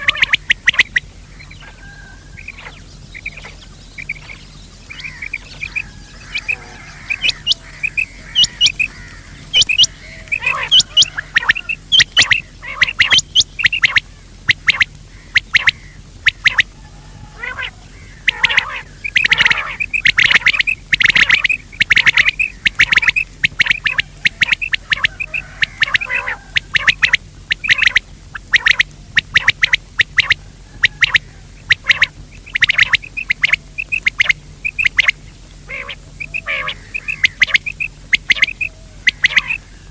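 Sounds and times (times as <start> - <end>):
faint hum: 0.0 - 39.9
quail calling: 0.0 - 39.9.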